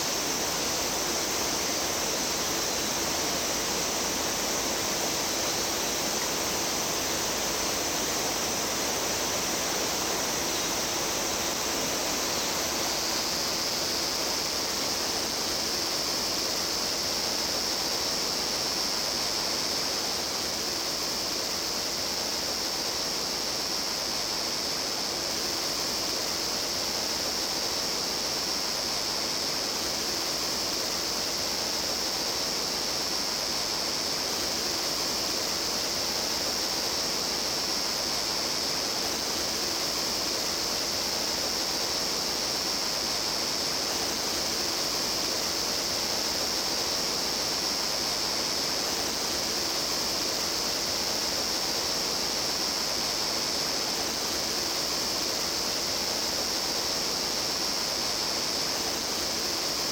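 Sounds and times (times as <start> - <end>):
high-pitched hiss: 0.0 - 59.9.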